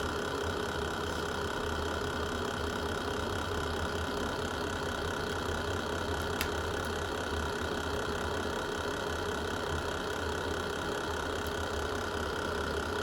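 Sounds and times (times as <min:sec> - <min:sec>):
wood fire rumbling and hissing: 0:00.0 - 0:13.0.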